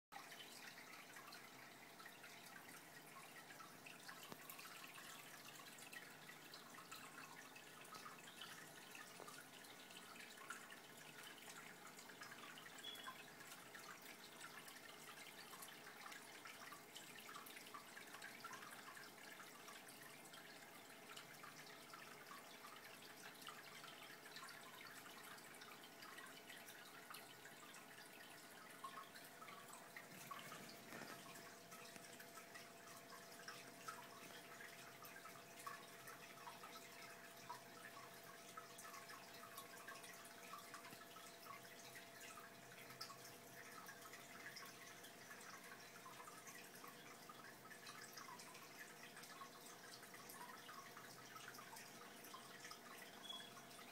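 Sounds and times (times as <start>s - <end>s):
water trickling and dripping: 0.1s - 53.9s.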